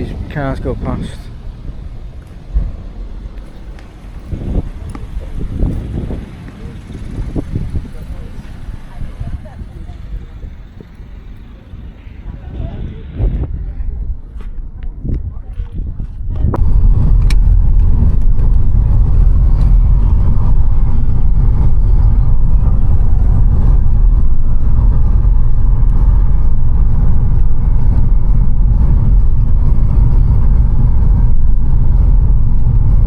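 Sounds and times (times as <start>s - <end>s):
car driving low rumble: 0.0s - 33.0s.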